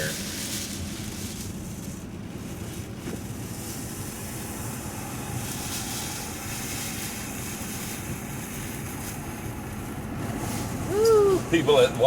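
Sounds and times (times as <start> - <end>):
road and engine noise: 0.0 - 12.0
strong wind buffeting a car: 0.0 - 12.0.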